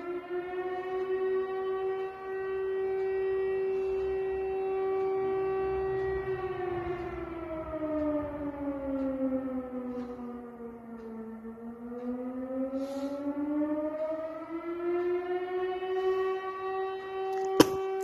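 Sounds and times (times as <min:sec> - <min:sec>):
air raid siren wailing: 0:00.0 - 0:18.0.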